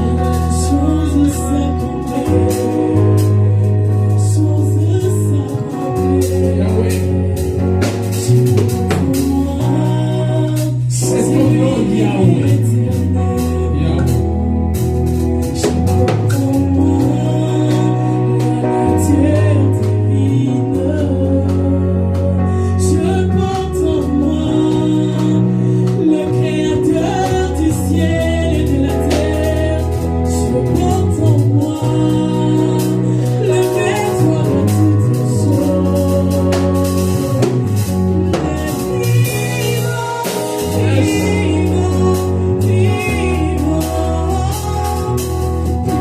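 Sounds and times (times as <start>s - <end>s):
bass line: 0.0s - 46.0s
gospel singing with instruments: 0.0s - 46.0s.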